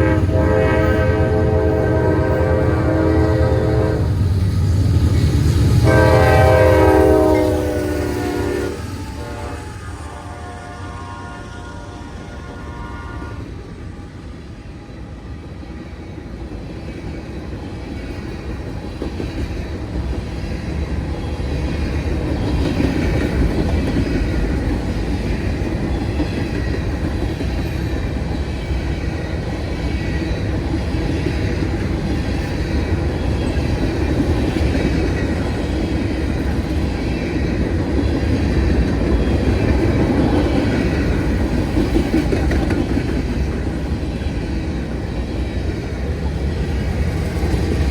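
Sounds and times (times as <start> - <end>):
freight train wheels clacking: 0.0 - 12.8, 15.4 - 47.9.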